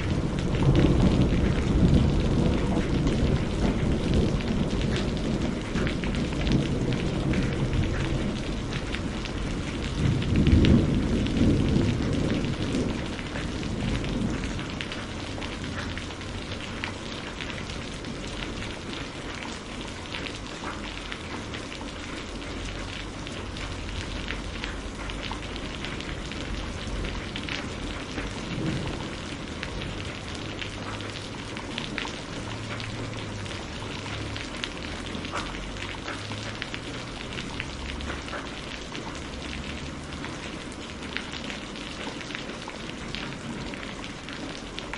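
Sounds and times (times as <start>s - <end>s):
thunder rumbling: 0.0s - 19.8s, 22.1s - 44.7s
steady rain falling: 0.0s - 44.9s.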